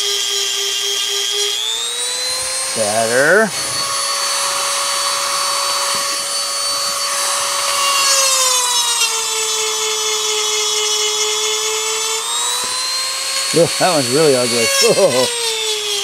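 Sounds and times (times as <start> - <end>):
rotary tool grinding metal: 0.0 - 16.0.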